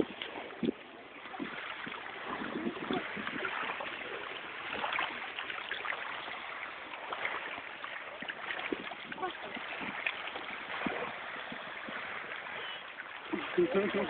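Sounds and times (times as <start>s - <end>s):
lake water at shore: 0.0s - 14.0s.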